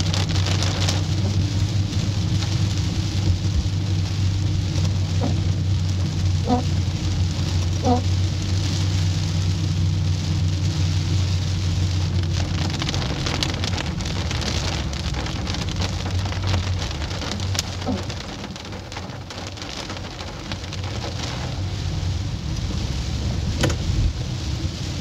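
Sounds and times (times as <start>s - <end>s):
car low steady hum: 0.0s - 25.0s
rain on a car roof: 0.0s - 25.0s.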